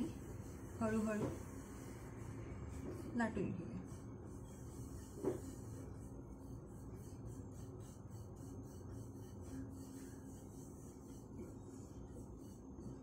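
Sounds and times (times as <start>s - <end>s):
rolling pin rubbing on dough: 0.0s - 13.0s.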